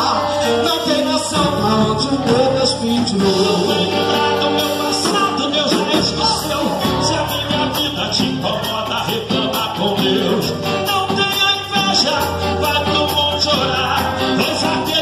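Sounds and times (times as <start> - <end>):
gospel band playing: 0.0 - 15.0.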